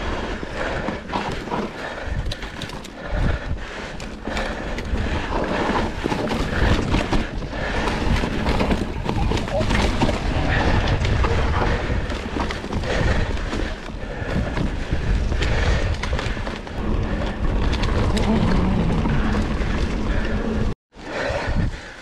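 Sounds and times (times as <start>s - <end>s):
bike rattles and knocks: 0.0s - 20.8s
bike tyres rumbling on trail: 0.0s - 22.0s.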